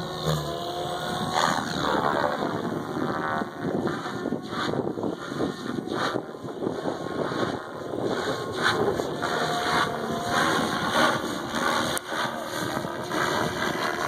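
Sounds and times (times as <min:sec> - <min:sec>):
model helicopter rotor blades whooshing: 0:00.0 - 0:14.0
wind noise on microphone: 0:00.0 - 0:14.0.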